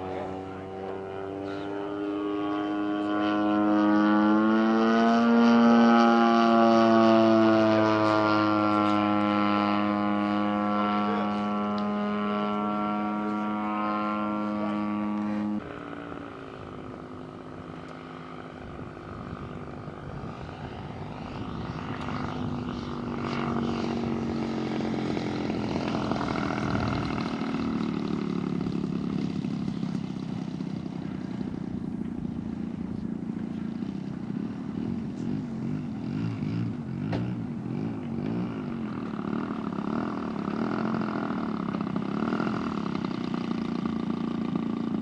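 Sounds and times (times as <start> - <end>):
model airplane engine in flight: 0.0 - 45.0.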